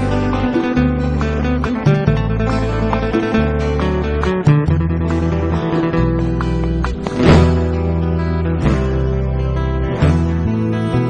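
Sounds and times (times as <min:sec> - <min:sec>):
acoustic guitars picking: 0:00.0 - 0:11.0
low bass line: 0:00.0 - 0:11.0.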